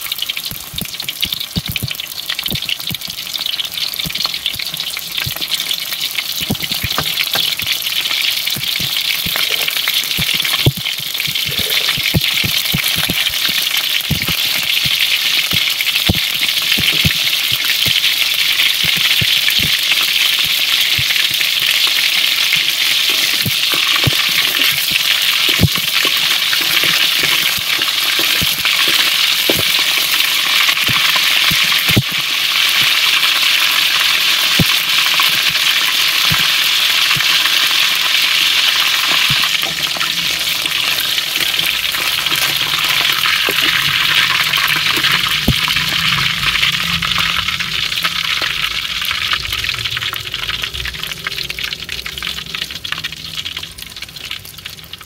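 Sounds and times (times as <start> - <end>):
shrimp deep-frying in hot oil: 0.0 - 55.0.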